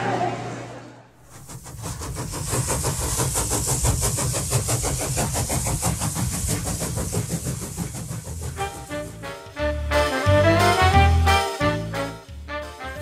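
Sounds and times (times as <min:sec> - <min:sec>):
steady hiss: 0:01.2 - 0:12.4
train chugging: 0:01.2 - 0:13.0.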